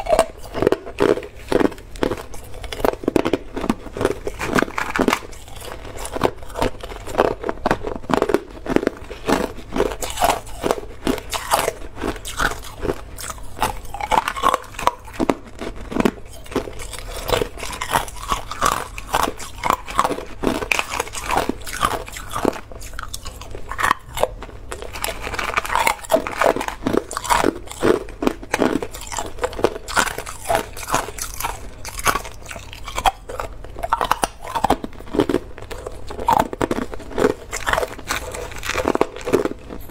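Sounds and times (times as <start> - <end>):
ice being bitten and chewed: 0.0 - 39.9.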